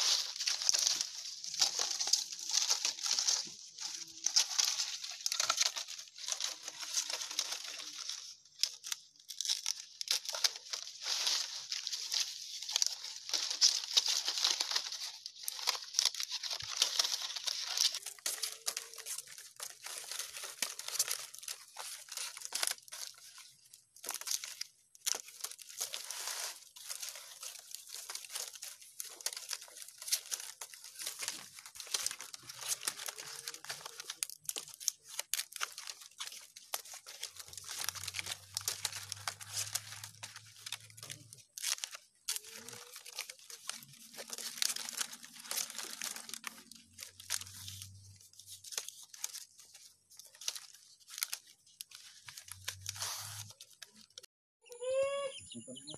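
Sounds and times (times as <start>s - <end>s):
palm leaves rustling and crackling: 0.0s - 55.2s.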